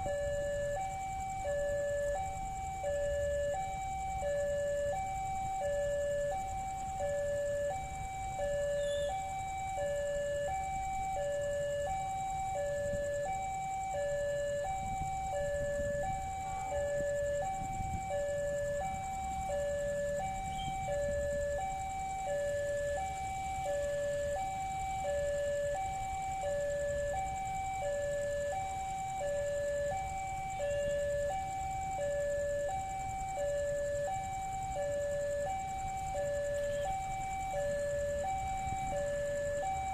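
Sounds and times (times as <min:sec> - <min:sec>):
level crossing warning alarm: 0:00.0 - 0:39.9.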